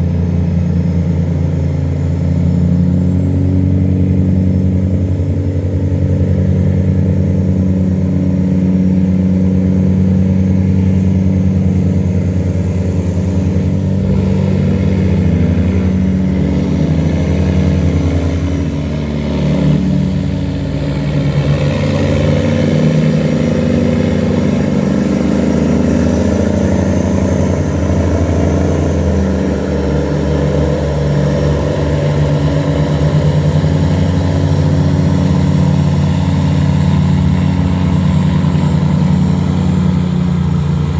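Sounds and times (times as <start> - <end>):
tugboat engines humming: 0.0 - 40.9.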